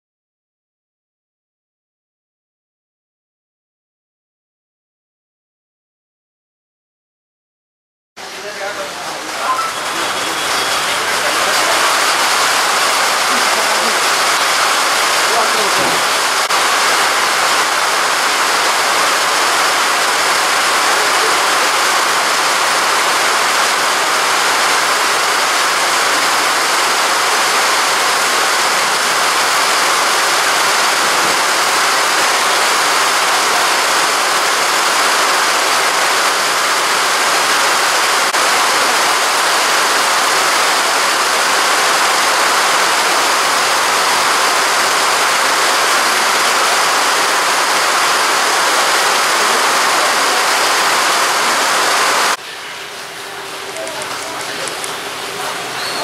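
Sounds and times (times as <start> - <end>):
steady loud hiss: 8.2 - 56.0.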